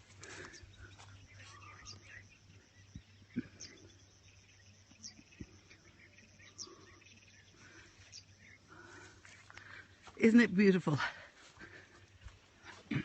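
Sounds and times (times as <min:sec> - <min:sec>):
soft bird chatter: 0:00.0 - 0:13.0.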